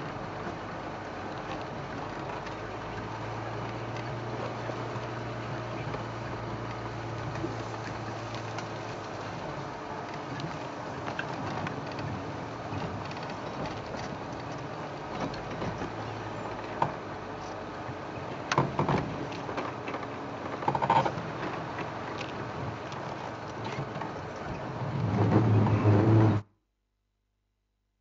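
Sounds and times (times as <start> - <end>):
vehicle engine on dirt track: 0.0 - 26.5
vehicle knocks and rattles: 1.4 - 26.4.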